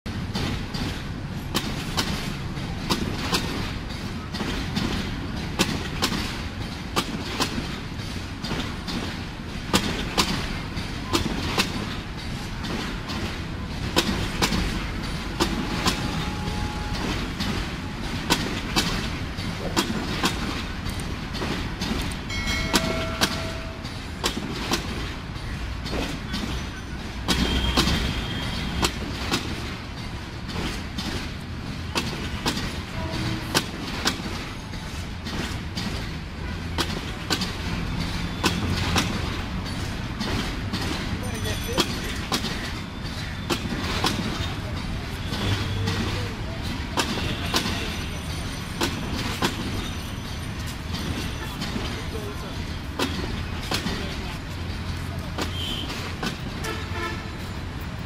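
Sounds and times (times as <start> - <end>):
train coaches rumbling past: 0.1 - 58.0
wheels clicking over rail joints: 0.1 - 58.0.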